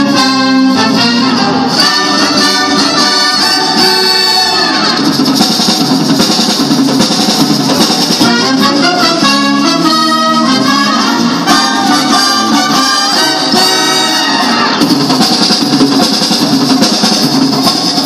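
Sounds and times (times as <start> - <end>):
symphonic wind band playing: 0.0 - 18.0.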